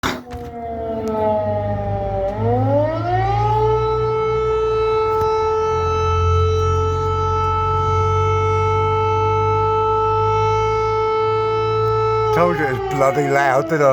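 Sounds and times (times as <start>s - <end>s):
air-raid siren wailing: 0.3s - 13.9s.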